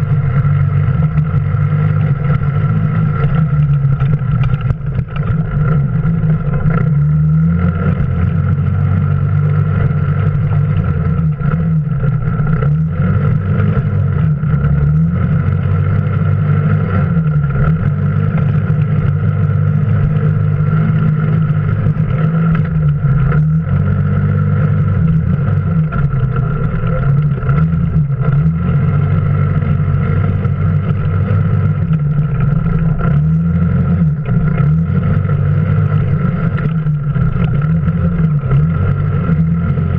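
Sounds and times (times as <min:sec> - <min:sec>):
off-road vehicle engine: 0:00.0 - 0:39.9
steady high whine: 0:00.0 - 0:39.9.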